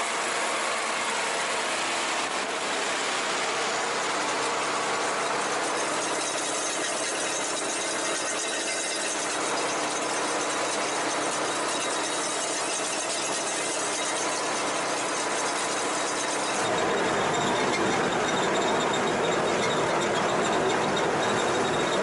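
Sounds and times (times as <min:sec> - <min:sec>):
combine harvester whine and squeal: 0:00.0 - 0:22.0.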